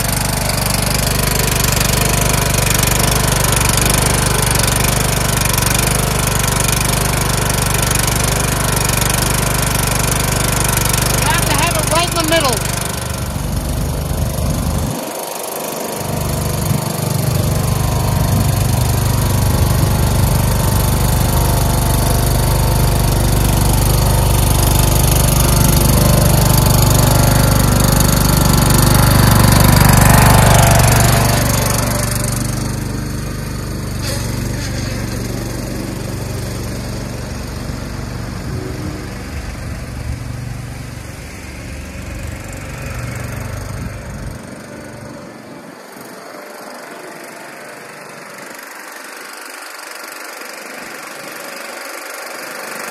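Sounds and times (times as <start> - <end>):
lawn tractor engine running: 0.0 - 52.9.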